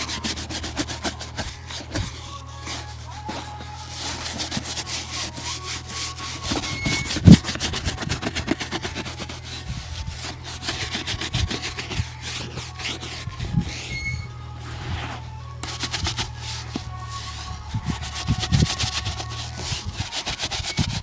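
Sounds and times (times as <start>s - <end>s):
shoe shine rubbing strokes: 0.0s - 21.0s.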